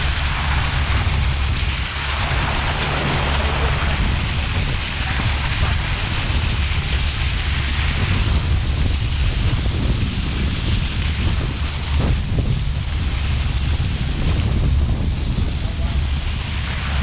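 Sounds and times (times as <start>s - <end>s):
motorboat engine running: 0.0s - 17.0s
water rushing past hull: 0.0s - 17.0s
wind buffeting microphone: 0.0s - 17.0s.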